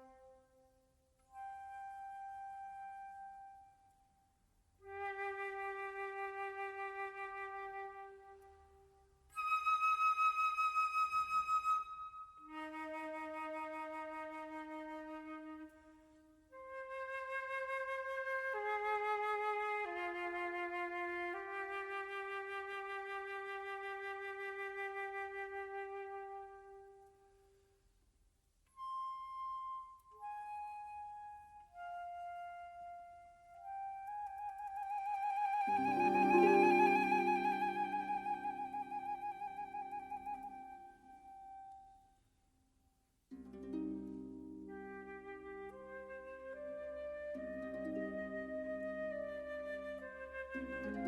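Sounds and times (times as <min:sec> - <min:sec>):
solo flute music: 0:00.0 - 0:27.6, 0:28.7 - 0:42.2, 0:43.4 - 0:51.0.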